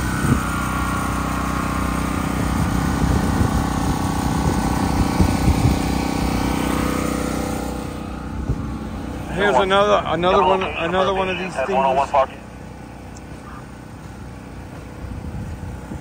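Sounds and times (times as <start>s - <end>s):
portable generator running: 0.0s - 13.1s.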